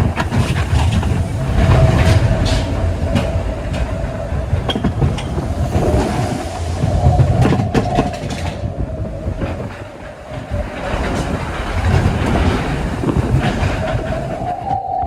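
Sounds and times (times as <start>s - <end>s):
roller coaster rumbling and rattling: 0.0s - 15.0s
wheels whining: 0.0s - 15.0s.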